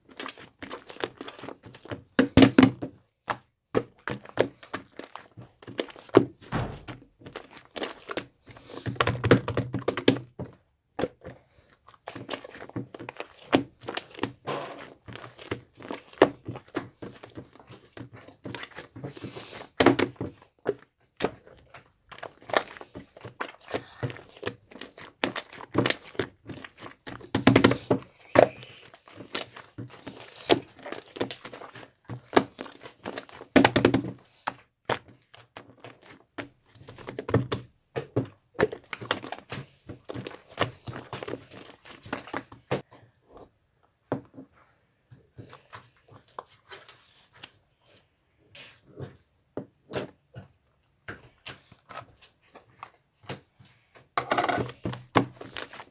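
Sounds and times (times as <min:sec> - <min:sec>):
slime squishing: 0:00.0 - 0:42.8, 0:45.3 - 0:47.6, 0:51.0 - 0:55.9.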